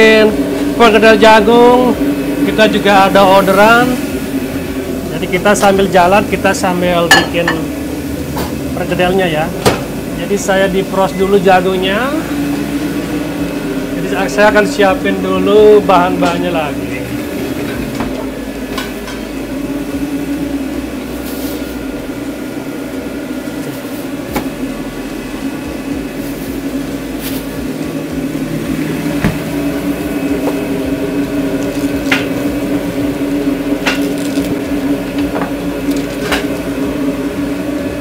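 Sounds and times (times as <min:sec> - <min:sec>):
microwave oven humming: 0:00.0 - 0:38.0.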